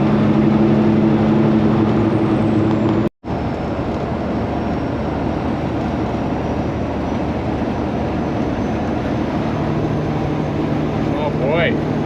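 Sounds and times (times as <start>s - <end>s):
road noise rushing: 0.0s - 12.0s
truck engine drone: 0.0s - 12.0s.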